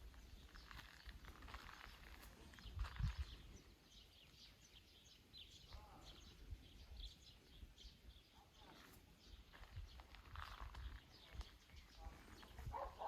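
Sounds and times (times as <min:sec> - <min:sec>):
faint bird chirps: 0:00.2 - 0:13.0.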